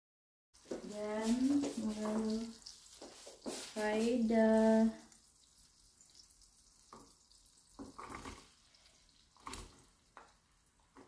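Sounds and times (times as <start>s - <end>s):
butter sizzling in a frying pan: 0.6s - 11.0s.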